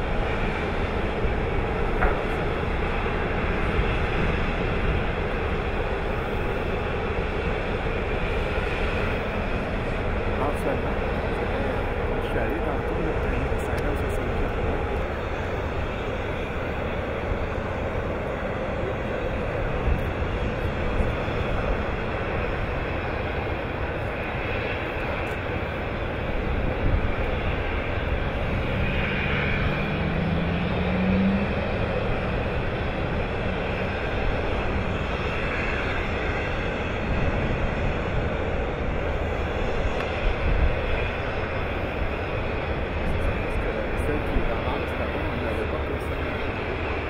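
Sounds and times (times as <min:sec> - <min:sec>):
loud mechanical rumble: 0:00.0 - 0:47.0.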